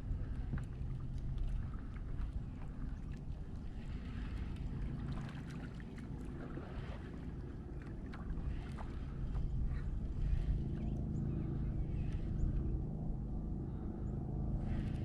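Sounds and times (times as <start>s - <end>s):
low rumble: 0.0s - 15.0s
water sloshing against hull: 0.0s - 15.0s.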